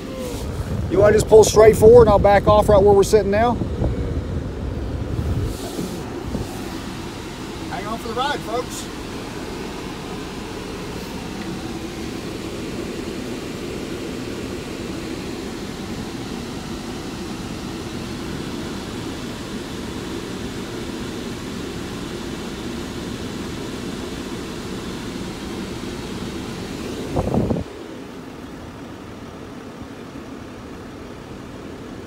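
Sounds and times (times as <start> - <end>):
engine hum: 0.0 - 32.0
road noise: 0.0 - 32.0.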